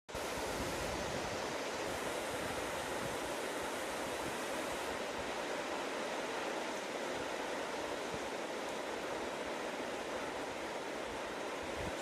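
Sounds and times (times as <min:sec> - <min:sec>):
river water rushing: 0:00.1 - 0:12.0.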